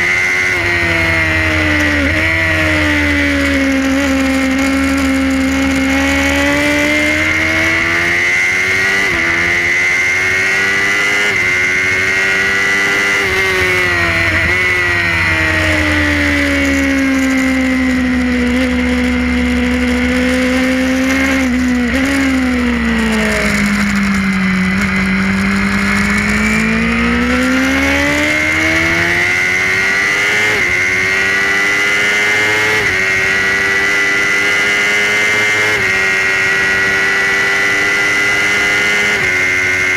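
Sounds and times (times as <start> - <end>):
rushing wind: 0.0 - 37.0
race motorcycle engine revving: 0.0 - 39.9.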